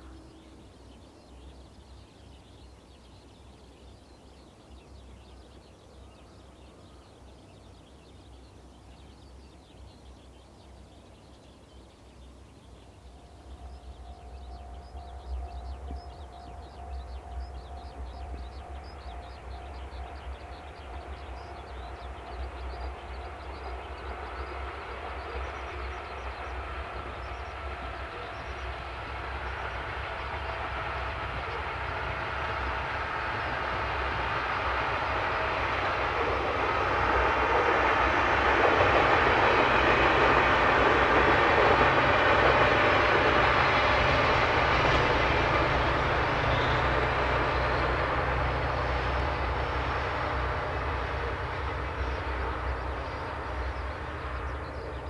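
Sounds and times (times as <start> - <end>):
train wheel and rail noise: 0.0 - 55.0.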